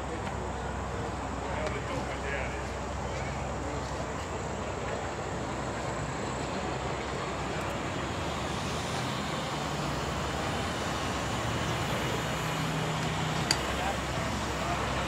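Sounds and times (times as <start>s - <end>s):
diesel truck engine idling: 0.0s - 15.0s
outdoor noise: 0.0s - 15.0s.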